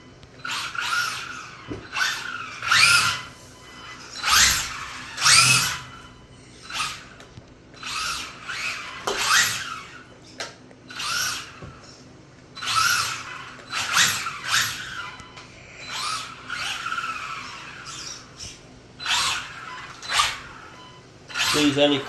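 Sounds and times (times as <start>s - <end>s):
electric motor revving whine: 0.4s - 10.1s, 10.9s - 11.9s, 12.6s - 22.0s.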